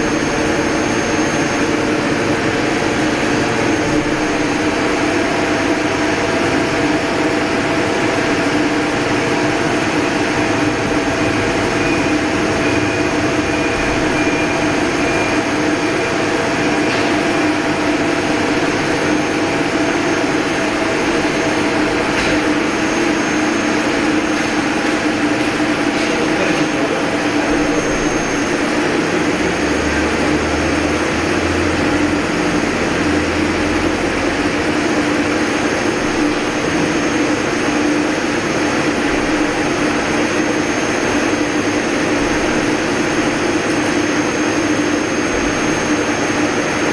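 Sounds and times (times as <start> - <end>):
high machine whine: 0.0 - 46.9
lathe machine whirring: 0.0 - 46.9.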